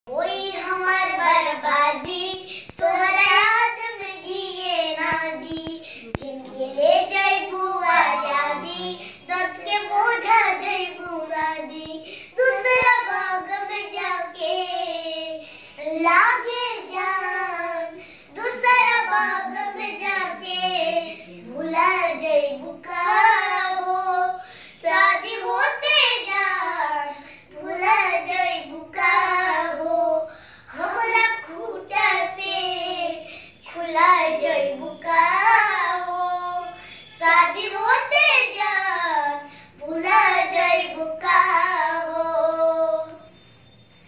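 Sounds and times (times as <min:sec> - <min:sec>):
boys singing unaccompanied: 0:00.1 - 0:43.3.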